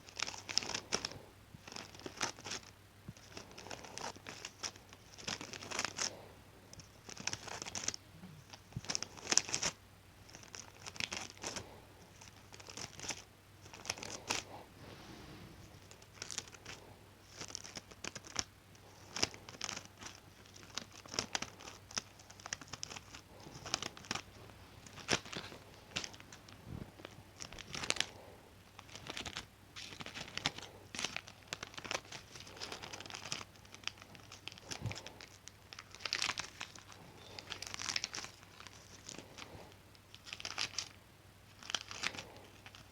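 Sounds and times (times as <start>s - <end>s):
material crinkling: 0.0s - 42.9s.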